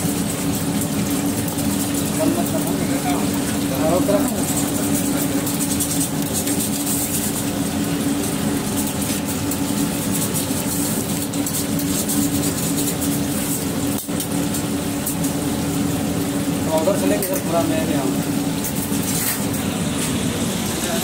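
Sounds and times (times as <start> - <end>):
ladle stirring thick gravy: 0.0 - 20.8
kitchen equipment humming drone: 0.0 - 21.0.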